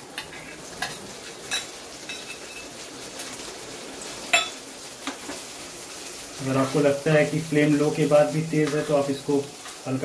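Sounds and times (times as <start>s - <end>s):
onions sizzling in a pan: 0.0s - 10.0s.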